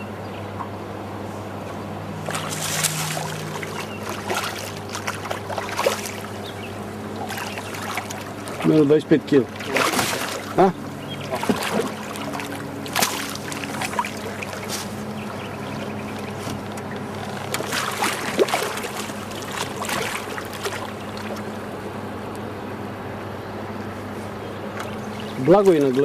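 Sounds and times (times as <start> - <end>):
low hum: 0.0 - 25.9
water splashing and sloshing: 1.6 - 22.5, 24.0 - 26.0.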